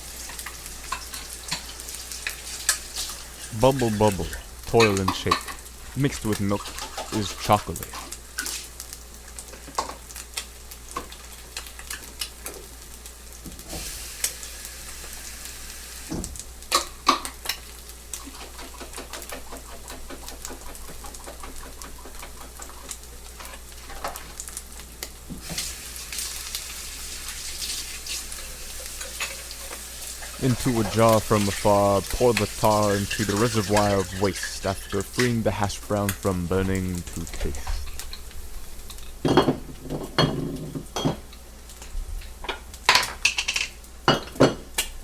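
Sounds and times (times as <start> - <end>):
food sizzling in a pan: 0.0 - 45.0.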